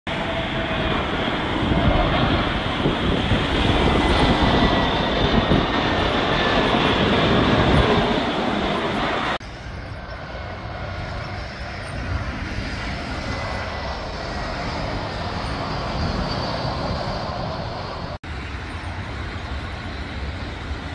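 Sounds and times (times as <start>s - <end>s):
distant jet engine noise: 0.1s - 20.9s
jet engines rumbling: 0.1s - 20.9s.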